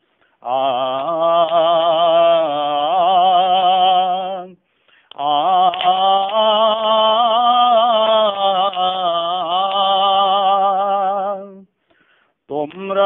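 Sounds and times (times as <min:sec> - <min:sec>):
man singing wordless vocal: 0:00.3 - 0:11.7, 0:12.4 - 0:13.0.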